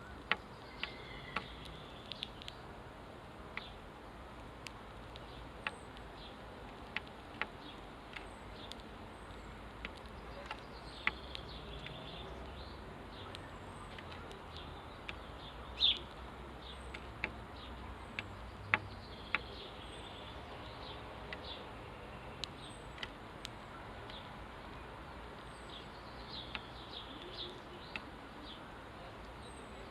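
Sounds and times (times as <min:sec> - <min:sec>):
sparrows chirping: 0:00.0 - 0:02.7, 0:03.6 - 0:03.8, 0:07.4 - 0:29.9.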